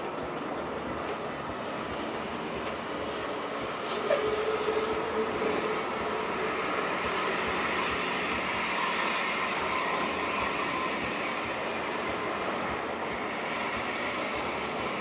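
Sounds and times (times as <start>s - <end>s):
bus engine and tyre rumble: 0.0s - 15.0s.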